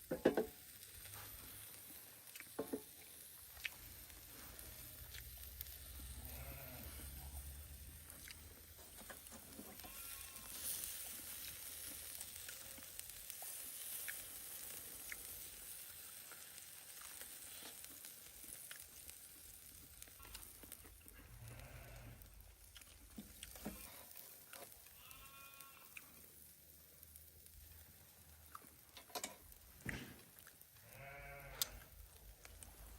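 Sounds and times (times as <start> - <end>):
fire crackling and popping: 0.0 - 21.6, 22.2 - 25.0, 26.0 - 30.9, 31.6 - 32.9
steak sizzling over fire: 0.0 - 30.9.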